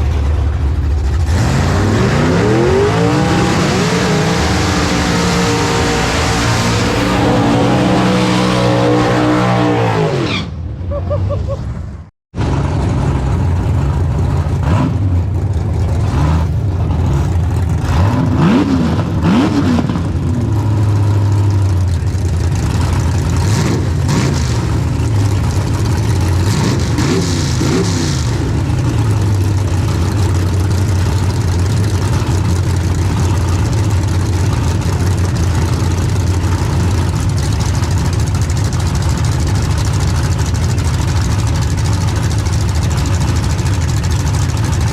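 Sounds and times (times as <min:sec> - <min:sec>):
race car engine idling and revving: 0:00.0 - 0:44.9.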